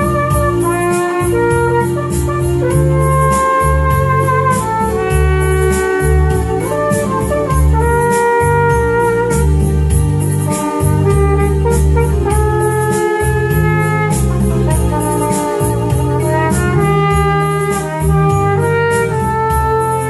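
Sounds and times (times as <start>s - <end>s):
electronic bass line: 0.0s - 20.0s
flugelhorn slow melody: 0.0s - 20.0s.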